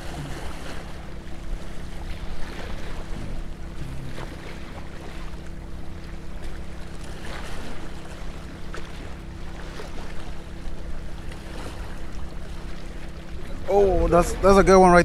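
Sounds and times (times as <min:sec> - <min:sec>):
low motor hum: 0:00.0 - 0:15.0
waves washing at shore: 0:00.0 - 0:15.0
wind: 0:00.0 - 0:15.0.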